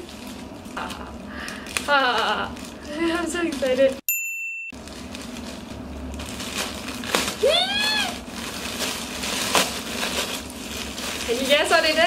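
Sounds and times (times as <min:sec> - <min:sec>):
plastic bag rustling and crinkling: 0:00.0 - 0:04.0, 0:04.8 - 0:12.0.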